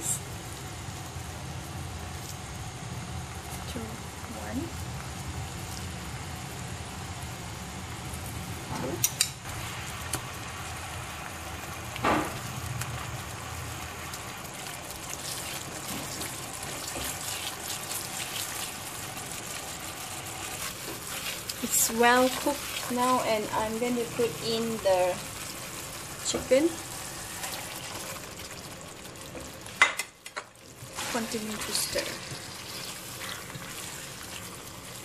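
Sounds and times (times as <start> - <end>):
curry paste bubbling sizzle: 0.1 - 35.0.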